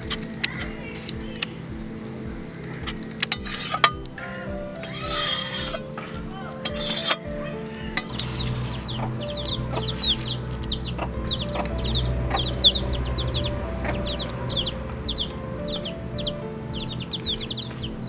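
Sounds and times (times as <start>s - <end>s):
small birds chirping: 0.0s - 18.0s
soft background music: 0.0s - 18.0s.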